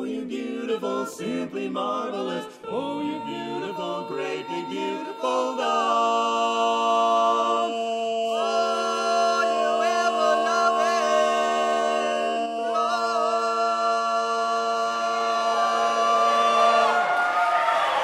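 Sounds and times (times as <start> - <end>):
quartet singing a cappella: 0.0 - 18.0.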